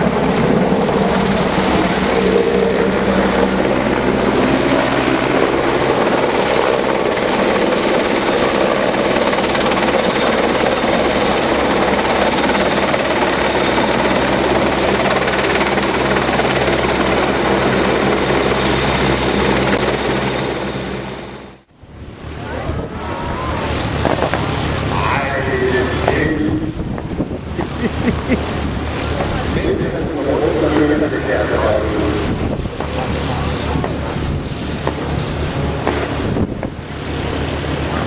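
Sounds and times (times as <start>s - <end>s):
aircraft engine drone: 0.0s - 38.0s.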